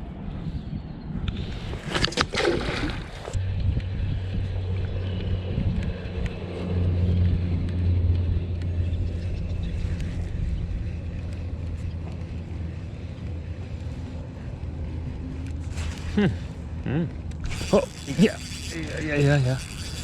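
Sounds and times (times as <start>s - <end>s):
motorboat engine humming: 2.3s - 20.0s.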